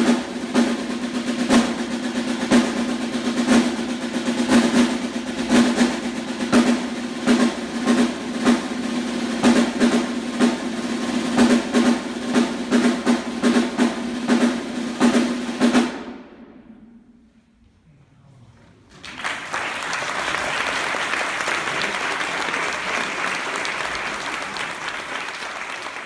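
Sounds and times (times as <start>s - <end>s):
snare drum roll: 0.0s - 17.0s, 19.0s - 26.0s.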